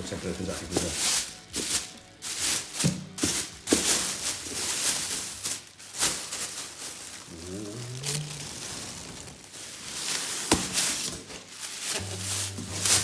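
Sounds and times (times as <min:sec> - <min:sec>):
cardboard packing rustling and tearing: 0:00.0 - 0:13.0.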